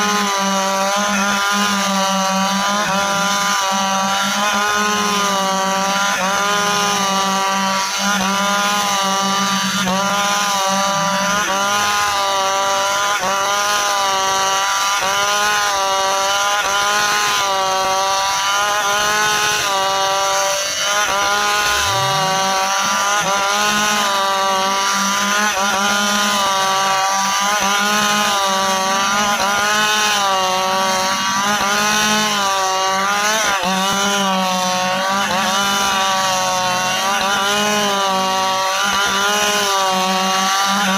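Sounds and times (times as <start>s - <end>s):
chainsaw cutting hardwood: 0.0s - 40.9s.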